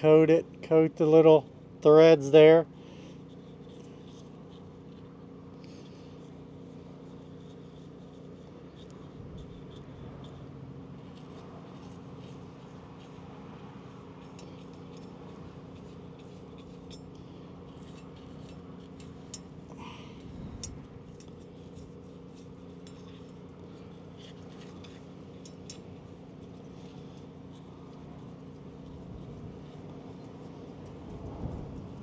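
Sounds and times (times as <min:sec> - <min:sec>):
low hum: 0:02.6 - 0:32.0
brush tapping on metal studs: 0:03.0 - 0:32.0.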